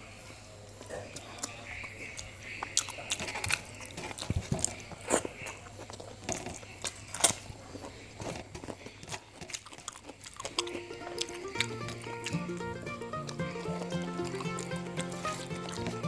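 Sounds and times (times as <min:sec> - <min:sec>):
person chewing and smacking: 0:00.9 - 0:16.0.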